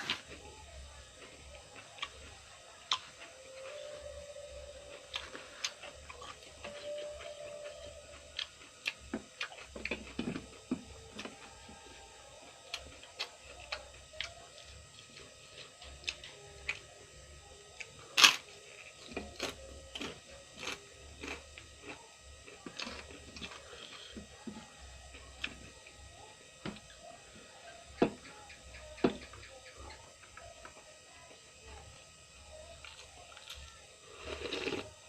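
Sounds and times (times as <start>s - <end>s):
crunchy vegetable chewing: 0.0s - 30.7s, 32.5s - 35.0s.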